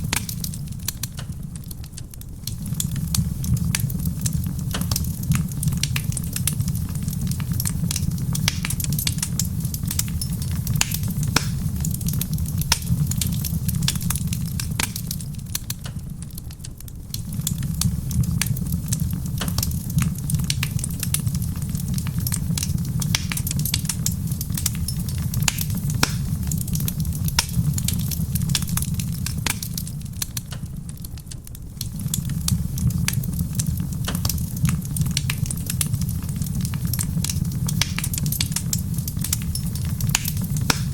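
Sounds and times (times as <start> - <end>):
rain patter: 0.0 - 40.9
wood fire crackling and popping: 0.0 - 40.9.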